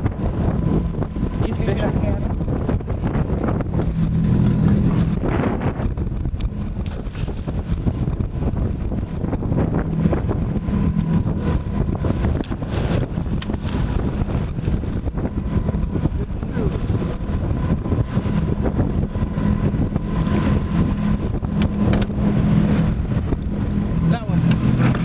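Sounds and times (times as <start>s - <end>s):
outboard motor running: 0.0s - 25.0s
wind buffeting microphone: 0.0s - 25.0s.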